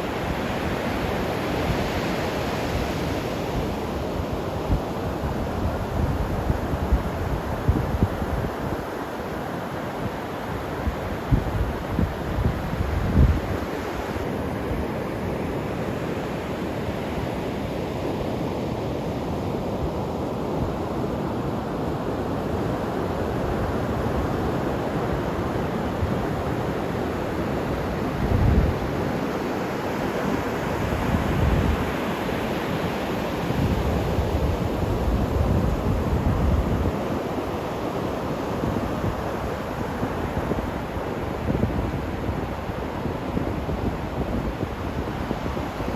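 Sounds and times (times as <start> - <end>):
sea surf washing: 0.0 - 45.9.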